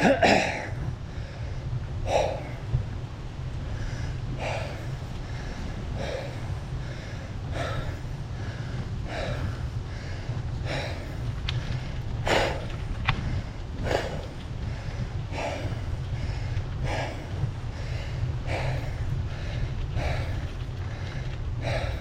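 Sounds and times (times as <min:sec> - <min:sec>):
heavy laboured breathing: 0:00.0 - 0:22.0
steady low rumble: 0:00.0 - 0:22.0.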